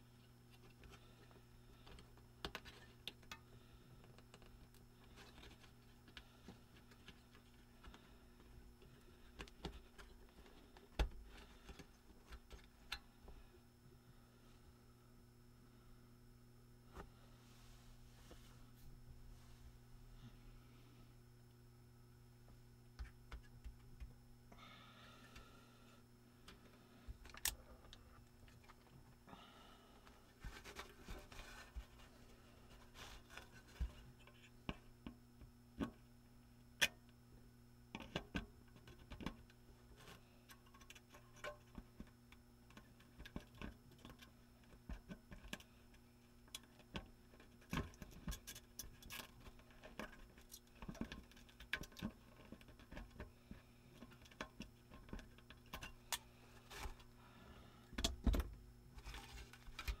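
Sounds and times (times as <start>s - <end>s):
faint steady hum: 0.0s - 60.0s.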